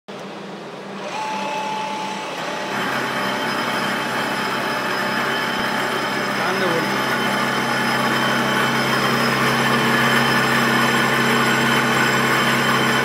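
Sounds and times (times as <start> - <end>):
lathe mechanical hum with whine: 0.1 - 13.0.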